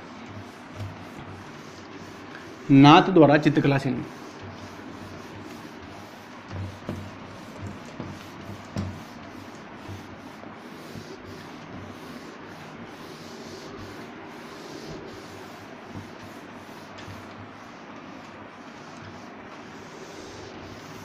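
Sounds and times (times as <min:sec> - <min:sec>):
duster wiping whiteboard: 0:00.0 - 0:21.0.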